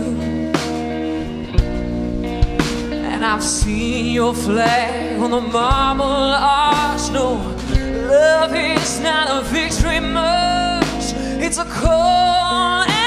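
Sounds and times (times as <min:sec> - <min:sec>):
woman singing into a microphone: 0:00.0 - 0:00.8, 0:03.0 - 0:13.0
instrumental accompaniment with bass: 0:00.0 - 0:13.0.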